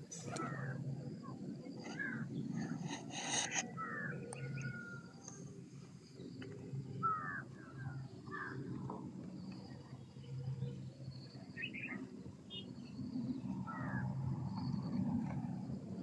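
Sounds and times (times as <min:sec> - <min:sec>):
birds chirping: 0:00.0 - 0:15.7
low steady background hum: 0:00.0 - 0:16.0.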